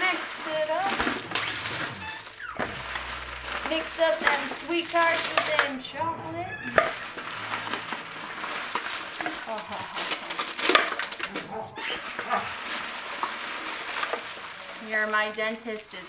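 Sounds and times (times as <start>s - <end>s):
candy wrappers crinkling: 0.0s - 16.0s.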